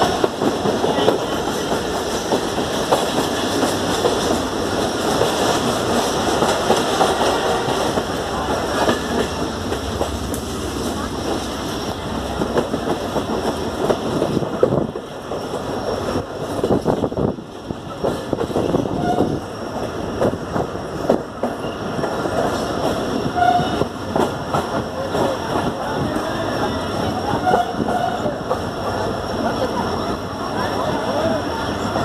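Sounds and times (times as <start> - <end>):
train wheels clattering over rail joints: 0.0 - 29.6.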